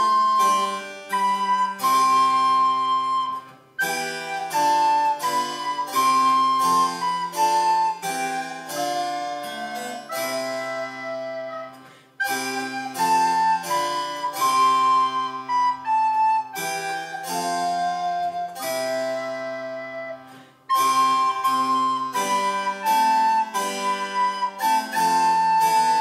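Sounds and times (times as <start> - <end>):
harpsichord accompaniment: 0.0 - 26.0
recorder melody: 0.0 - 26.0.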